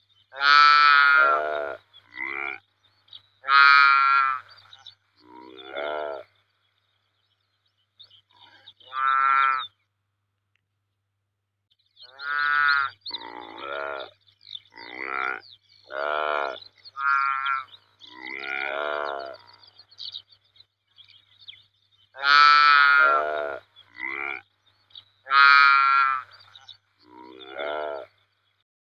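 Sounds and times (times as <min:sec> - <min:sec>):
antelope calling: 0:00.3 - 0:09.9, 0:12.0 - 0:28.3.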